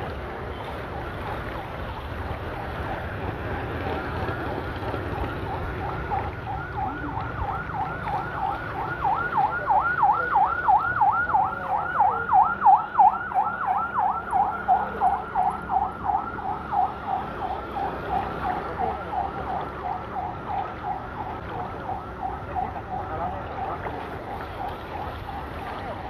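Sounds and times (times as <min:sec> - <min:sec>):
road traffic rumble: 0:00.0 - 0:26.0
emergency siren yelping: 0:00.7 - 0:26.0.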